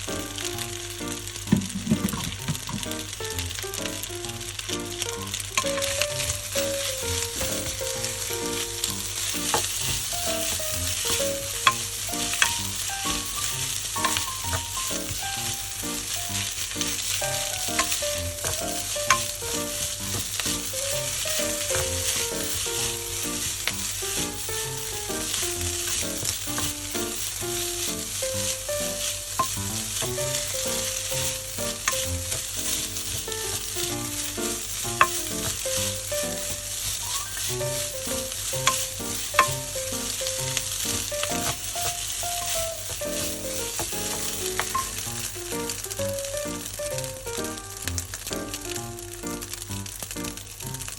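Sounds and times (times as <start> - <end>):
rice sizzling in a pan: 0.0 - 50.9
soft background music: 0.0 - 50.9
utensil scraping a pan: 1.5 - 3.1, 5.0 - 45.9.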